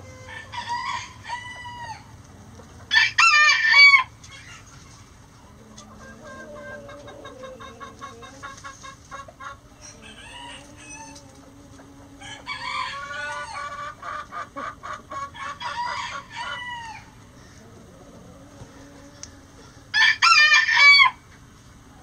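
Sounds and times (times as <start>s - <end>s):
roosters crowing: 0.0s - 21.5s
hens clucking: 0.0s - 22.0s.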